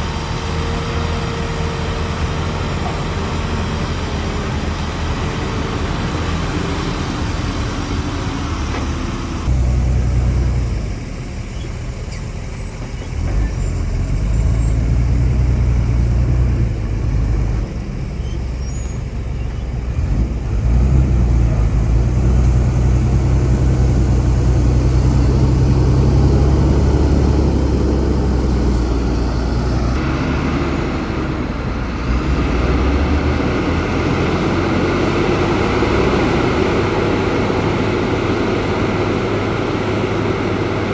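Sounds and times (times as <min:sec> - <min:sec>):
heavy diesel machinery engine: 0:00.0 - 0:40.9.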